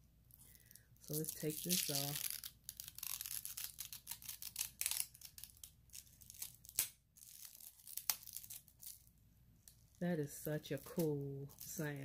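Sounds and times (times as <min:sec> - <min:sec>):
plastic film peeling crackle: 0:00.3 - 0:10.0.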